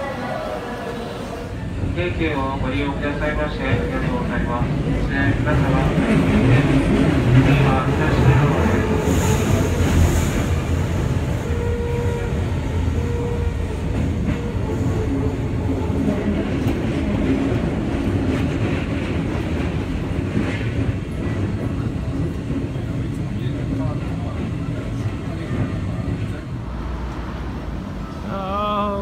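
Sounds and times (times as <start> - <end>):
train wheels rumbling on rail: 1.2 - 28.3.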